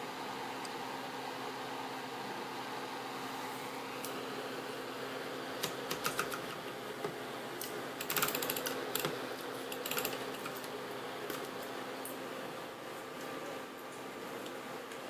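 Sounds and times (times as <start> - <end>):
desk fan humming: 0.0 - 15.0.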